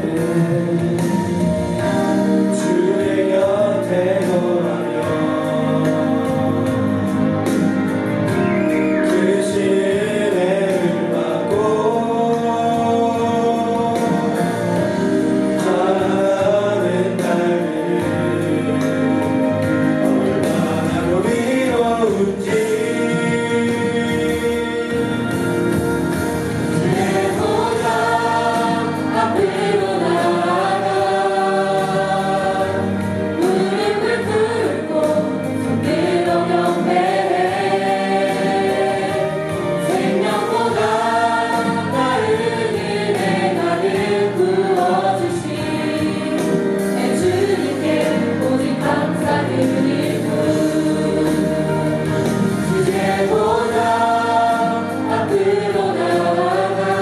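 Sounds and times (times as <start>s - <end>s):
choir singing gospel song: 0.0s - 57.0s
instrumental accompaniment: 0.0s - 57.0s.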